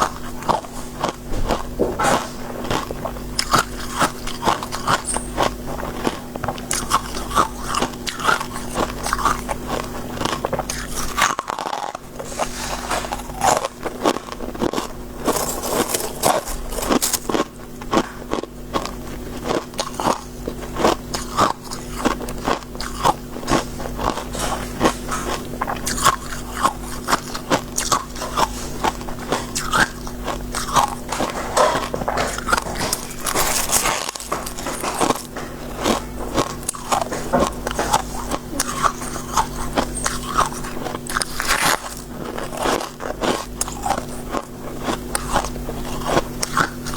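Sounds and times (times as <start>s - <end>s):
crunching of chewed frost: 0.0s - 46.9s.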